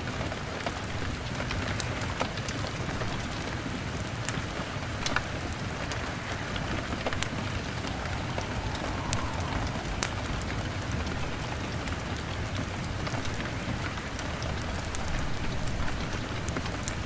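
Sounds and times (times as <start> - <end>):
log fire crackling and popping: 0.3 - 17.0.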